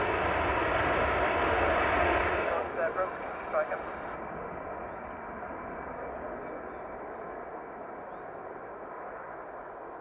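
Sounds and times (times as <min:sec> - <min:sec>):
distant jet engines roaring: 0:00.0 - 0:10.0.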